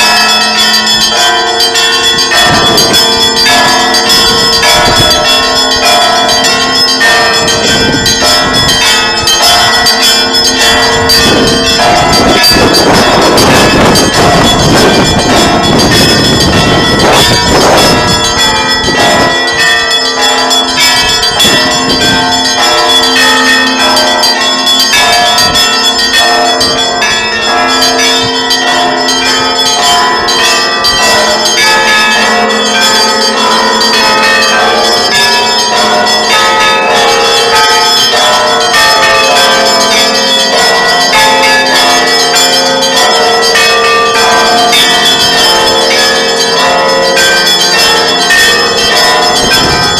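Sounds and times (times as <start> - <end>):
church bells ringing: 0.0 - 49.9.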